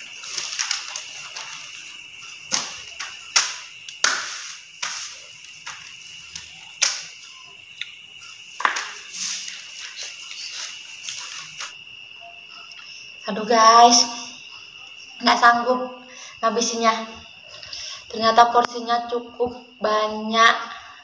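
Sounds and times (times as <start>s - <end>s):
cricket trill: 0.0s - 21.0s.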